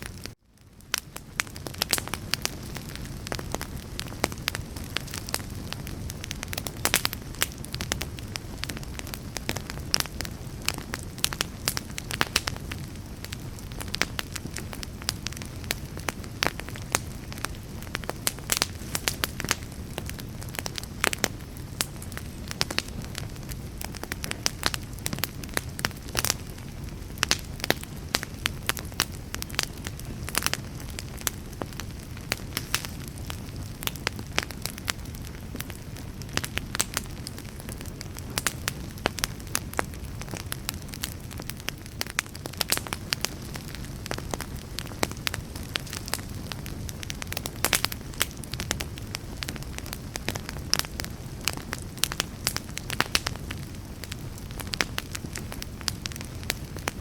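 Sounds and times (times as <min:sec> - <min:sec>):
wood fire burning and crackling: 0:00.0 - 0:57.0.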